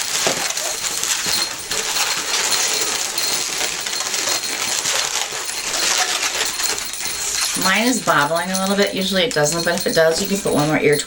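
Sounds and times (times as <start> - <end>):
balloons rubbing and squeaking: 0.0 - 11.0.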